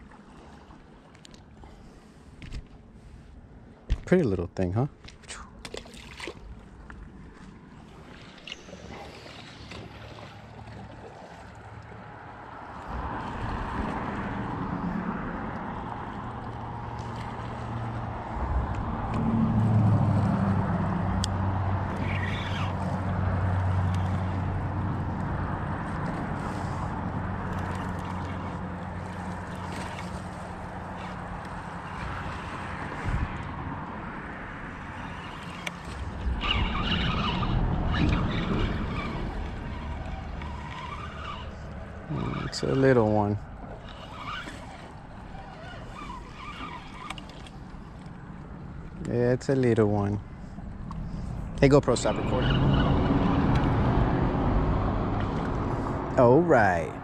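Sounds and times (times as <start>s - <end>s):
engine droning: 6.6s - 57.0s
road traffic passing: 7.4s - 57.0s.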